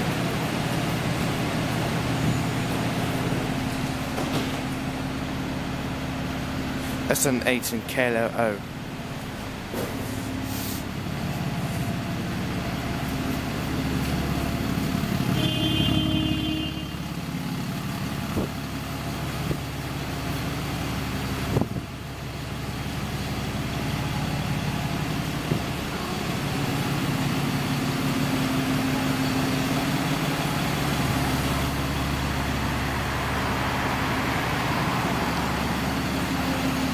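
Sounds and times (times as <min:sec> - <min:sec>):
bus engine idling: 0:00.0 - 0:36.9.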